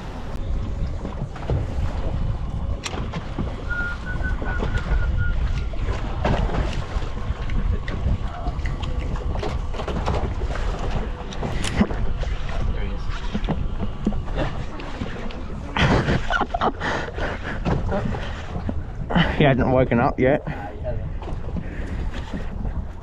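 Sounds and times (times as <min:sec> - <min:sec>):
water washing against boat hull: 0:00.0 - 0:23.0
wind buffeting microphone: 0:00.0 - 0:23.0.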